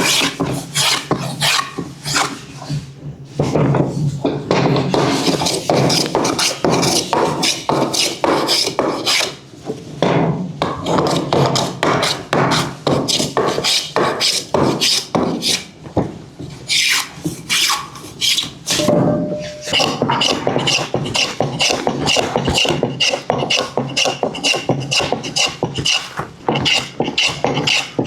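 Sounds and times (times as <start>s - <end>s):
rasp scraping wood: 0.0s - 3.6s, 4.6s - 9.4s, 10.6s - 15.8s, 16.5s - 18.9s, 19.6s - 28.0s.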